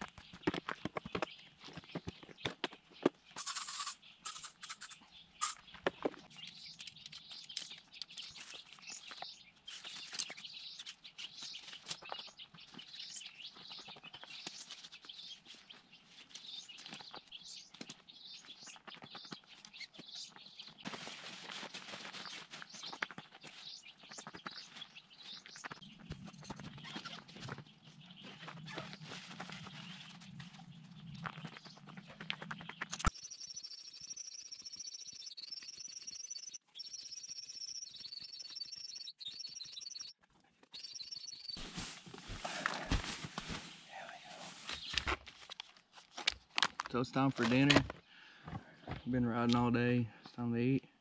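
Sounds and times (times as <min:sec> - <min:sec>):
faint birds chirping: 0:00.0 - 0:45.8.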